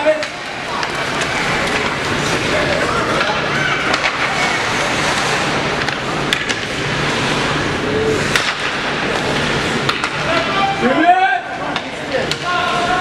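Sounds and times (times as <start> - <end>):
skates scraping on ice: 0.1 - 10.8.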